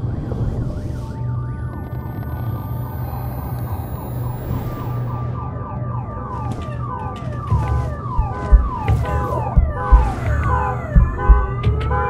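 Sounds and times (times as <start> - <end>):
steady low drone: 0.0 - 12.0
warbling siren-like tone: 0.0 - 12.0.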